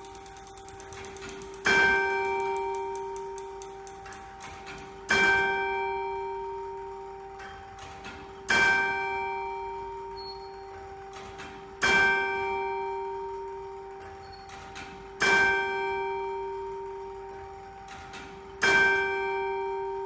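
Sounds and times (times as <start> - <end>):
clock bell striking: 0.0 - 20.0
faint clock mechanism click: 0.0 - 20.0.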